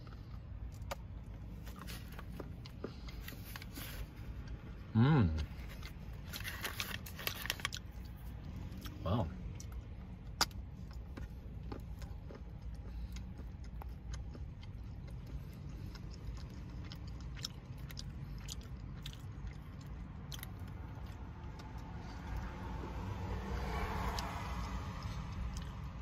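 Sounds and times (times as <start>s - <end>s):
person chewing chocolate: 0.0s - 26.0s
steady low rumble: 0.0s - 26.0s.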